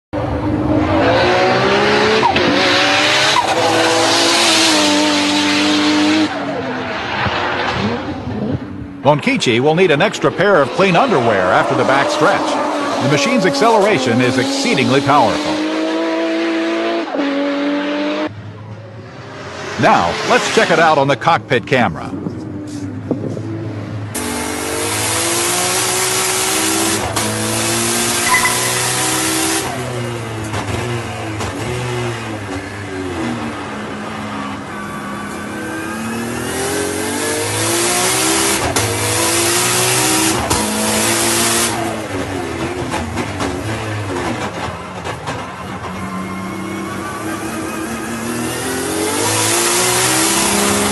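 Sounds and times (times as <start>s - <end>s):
car engine accelerating hard: 0.2s - 9.0s, 10.1s - 20.9s, 22.2s - 50.9s.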